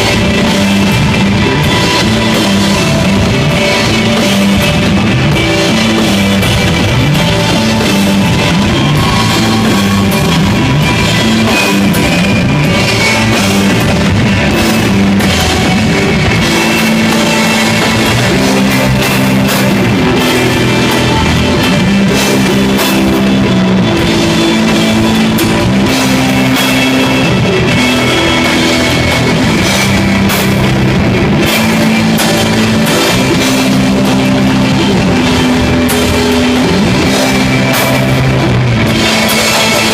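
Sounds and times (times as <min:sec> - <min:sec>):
bass guitar notes: 0:00.0 - 0:39.9
drum kit with cymbals: 0:00.0 - 0:39.9
electric guitar: 0:00.0 - 0:39.9.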